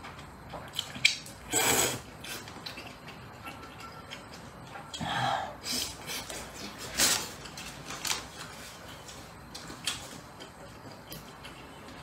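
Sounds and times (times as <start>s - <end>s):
chewing: 0.1s - 5.0s, 5.8s - 12.0s.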